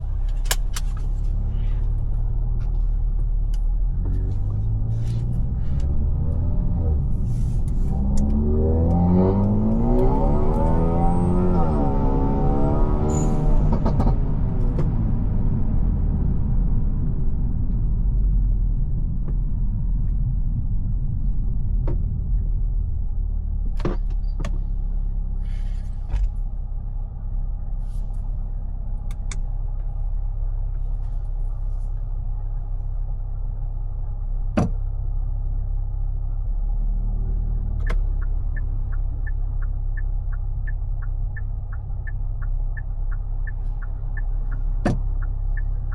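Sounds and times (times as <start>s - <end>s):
car engine droning: 0.0s - 45.9s.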